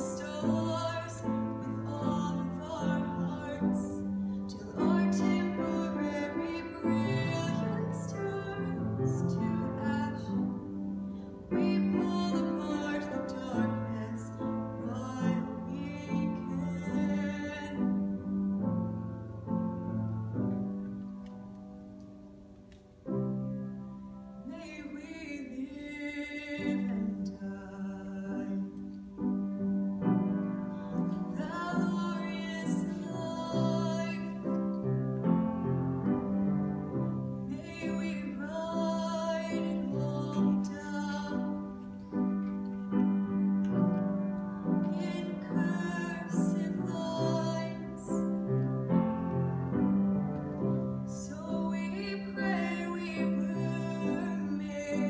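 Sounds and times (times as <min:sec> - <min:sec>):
piano chords: 0:00.0 - 0:55.0.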